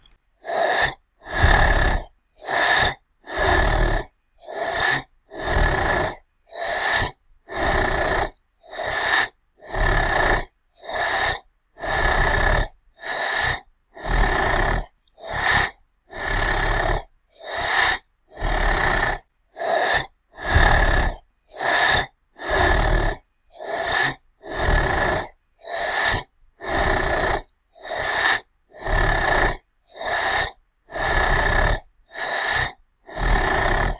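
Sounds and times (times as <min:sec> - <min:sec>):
monster heavy breathing: 0:00.4 - 0:33.9.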